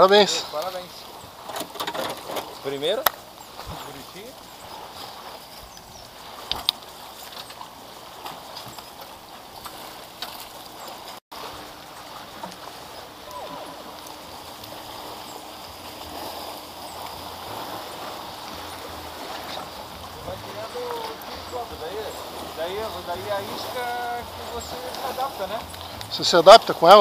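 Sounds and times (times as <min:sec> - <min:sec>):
water lapping against boat: 0:00.0 - 0:27.0.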